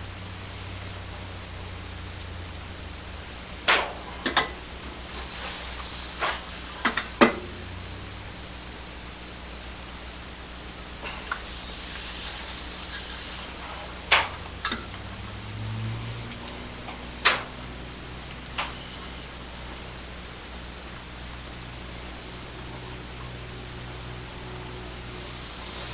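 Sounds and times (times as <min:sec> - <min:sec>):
propane torch hissing: 0:00.0 - 0:25.9.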